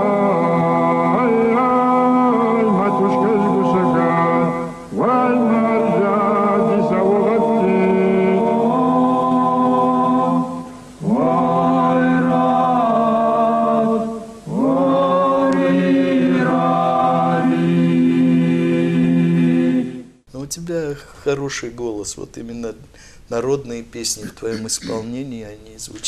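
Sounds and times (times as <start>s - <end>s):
men singing low drone: 0.0s - 20.1s, 24.2s - 25.1s.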